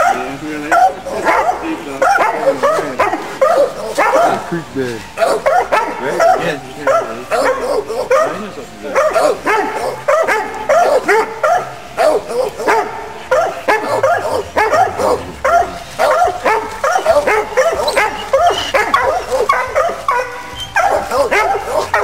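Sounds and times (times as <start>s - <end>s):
hunting dogs barking and baying: 0.0s - 22.0s.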